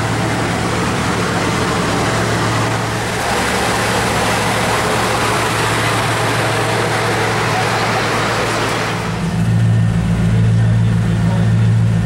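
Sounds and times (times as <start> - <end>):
car engine idling: 0.0 - 12.0
outdoor background noise: 0.0 - 12.0.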